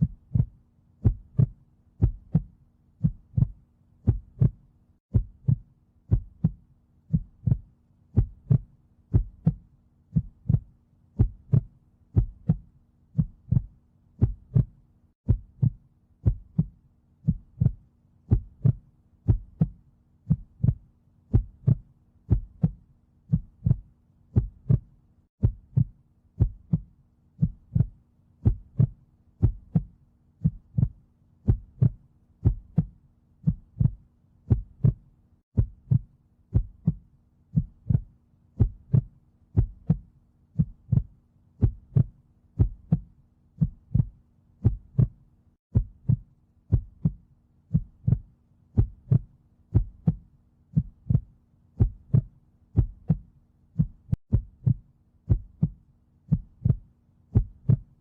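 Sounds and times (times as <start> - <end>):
heartbeat thumping: 0.0 - 58.0.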